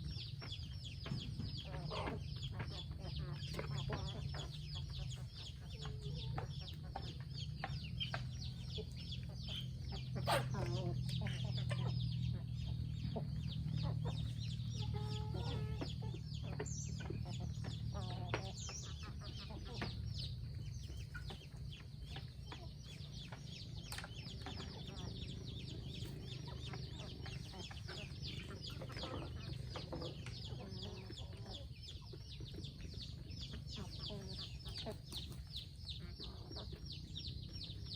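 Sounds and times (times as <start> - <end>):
chickens clucking: 0.0 - 37.9
patter of small ticks: 0.0 - 37.9
steady low hum: 0.0 - 37.9.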